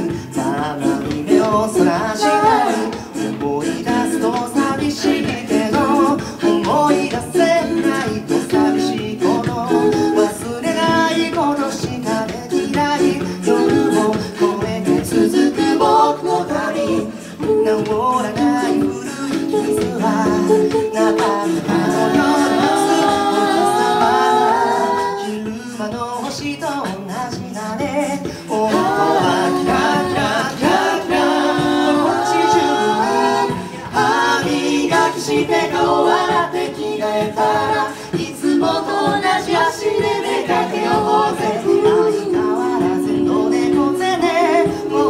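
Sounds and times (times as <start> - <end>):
a cappella group singing: 0.0 - 45.0
bass vocalist: 0.0 - 45.0
vocal percussion: 0.0 - 45.0.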